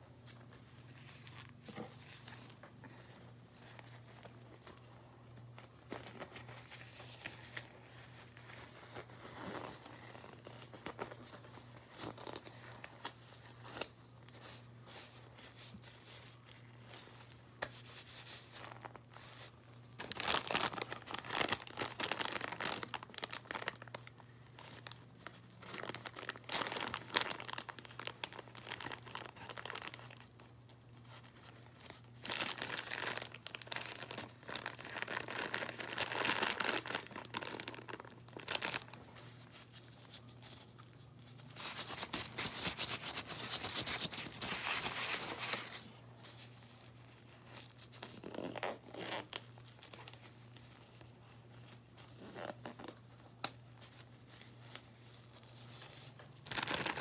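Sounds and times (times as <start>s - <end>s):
plastic crinkling: 0.0s - 57.0s.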